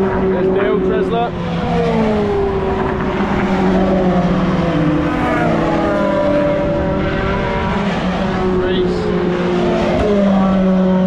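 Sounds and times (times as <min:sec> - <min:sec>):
racing truck engines: 0:00.0 - 0:11.0.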